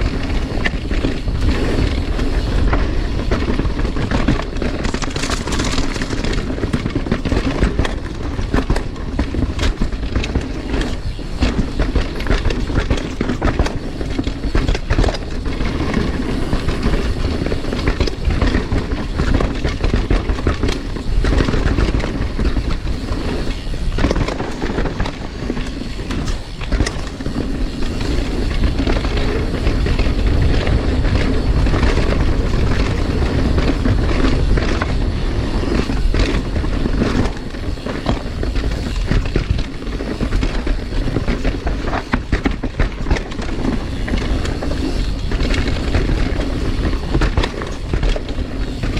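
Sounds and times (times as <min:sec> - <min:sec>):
bike clicks and clatters: 0:00.0 - 0:48.9
bike tyres rumbling on dirt: 0:00.0 - 0:48.9.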